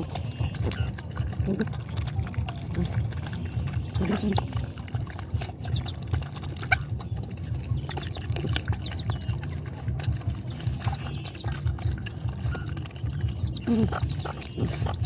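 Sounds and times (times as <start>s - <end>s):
puppies lapping wet food: 0.0s - 15.0s.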